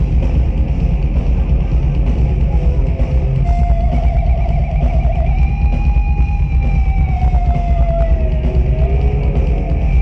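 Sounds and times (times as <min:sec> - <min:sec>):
heavy metal band playing live: 0:00.0 - 0:10.0.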